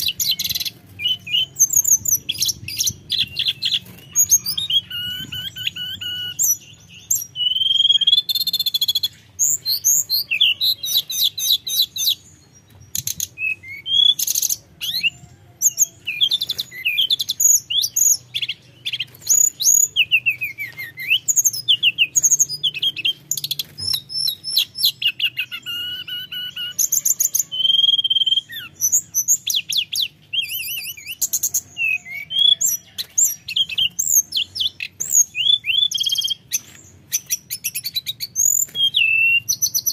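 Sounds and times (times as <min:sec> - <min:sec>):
bird singing whistled trills: 0:00.0 - 0:39.9.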